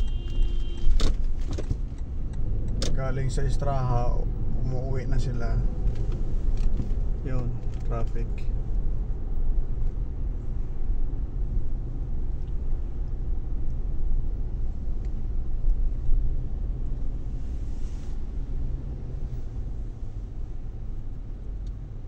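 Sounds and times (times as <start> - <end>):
car interior low rumble: 0.0 - 22.0.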